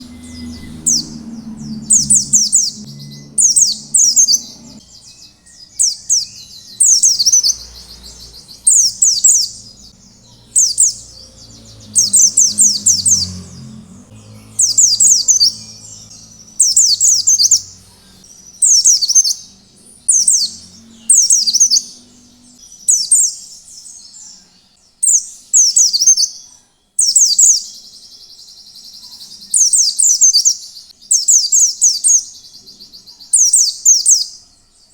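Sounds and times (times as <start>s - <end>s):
bird twittering: 0.0s - 28.2s.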